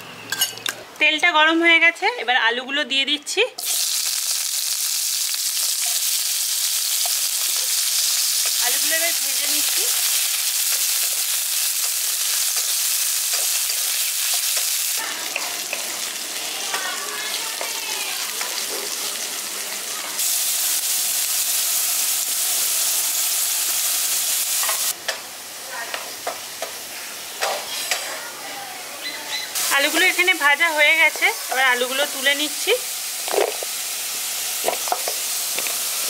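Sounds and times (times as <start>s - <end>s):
potatoes sizzling in hot oil: 3.6s - 28.8s, 29.4s - 36.0s.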